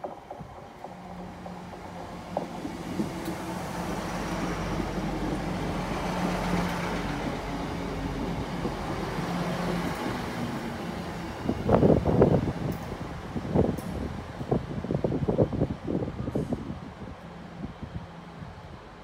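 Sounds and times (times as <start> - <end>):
rumble of wheels on rails: 0.0 - 19.0
diesel engines humming: 0.2 - 19.0.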